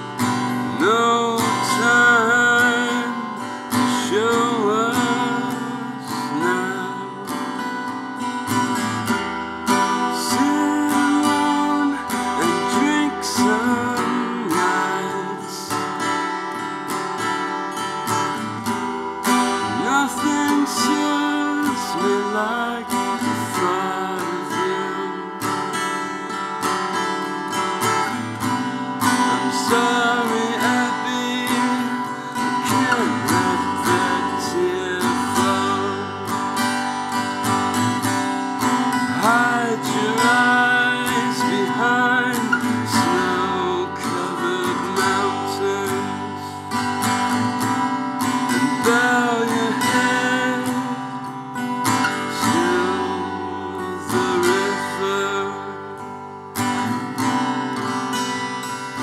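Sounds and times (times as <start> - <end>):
man singing: 0.0 - 9.0, 9.7 - 16.3, 18.2 - 25.9, 27.8 - 57.9
acoustic guitar strumming: 0.0 - 59.0.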